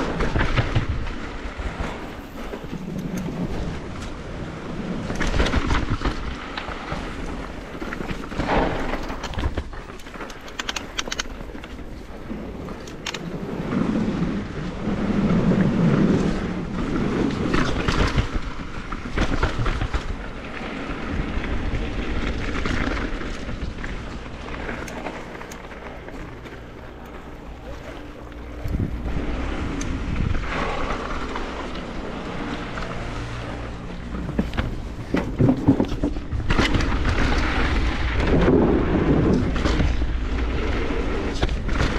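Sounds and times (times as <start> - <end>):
bike knocking and rattling: 0.0 - 41.9
wind on microphone: 0.0 - 41.9.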